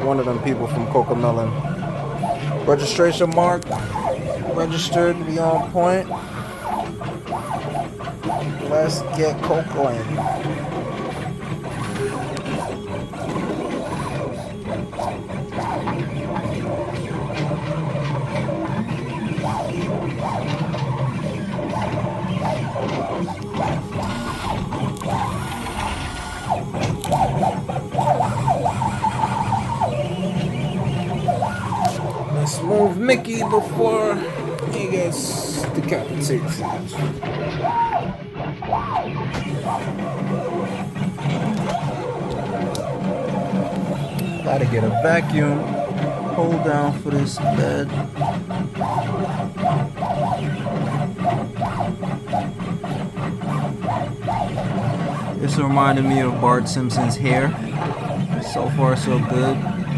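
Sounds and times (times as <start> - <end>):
stepper motors whining: 0.0 - 59.9.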